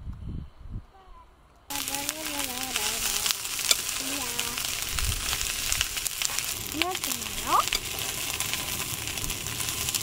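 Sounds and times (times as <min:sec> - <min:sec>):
food sizzling in a pan: 0:01.7 - 0:10.0.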